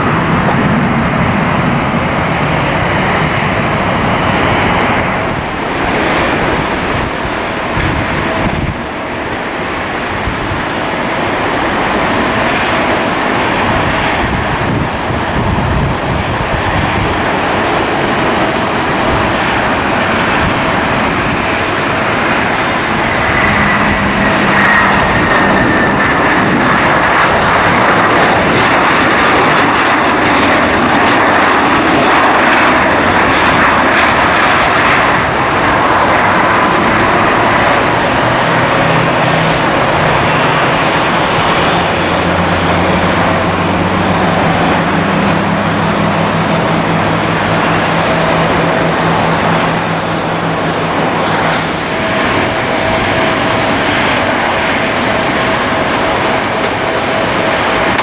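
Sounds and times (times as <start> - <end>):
airliner engines with high whine: 0.0 - 58.0
wind buffeting microphone: 0.0 - 58.0.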